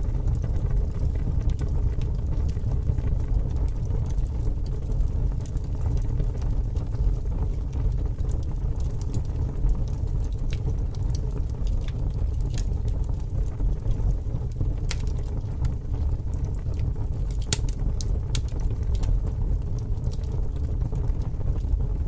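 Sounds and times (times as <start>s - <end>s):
bonfire flames rumbling: 0.0s - 22.0s
fire crackles and pops: 0.0s - 22.0s.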